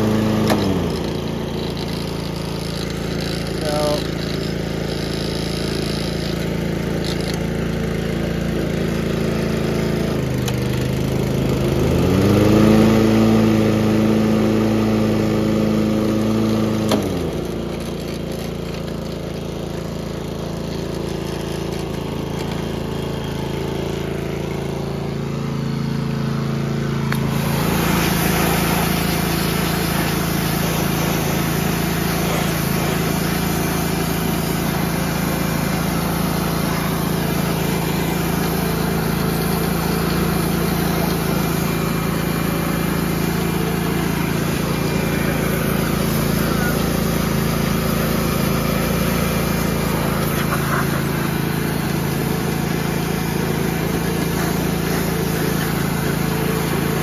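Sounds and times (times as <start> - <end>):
lawn mower engine running: 0.0 - 57.0
pressure washer spraying water: 0.0 - 57.0.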